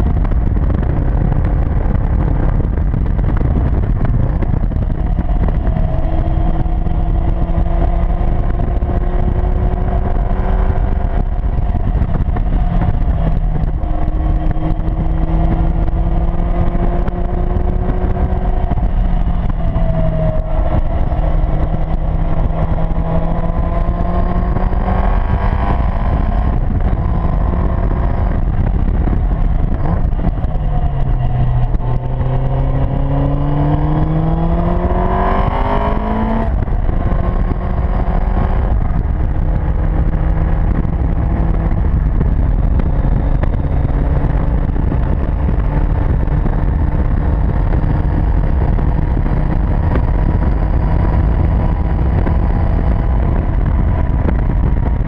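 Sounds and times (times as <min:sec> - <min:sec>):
sports car engine revving: 0:00.0 - 0:55.0
wind noise on microphone: 0:00.0 - 0:55.0.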